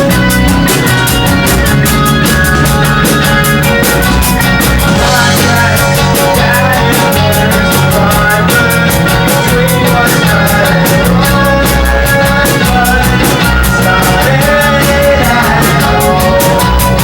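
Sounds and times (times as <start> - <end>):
fast cymbal beat: 0.0 - 17.0
rock band playing live: 0.0 - 17.0.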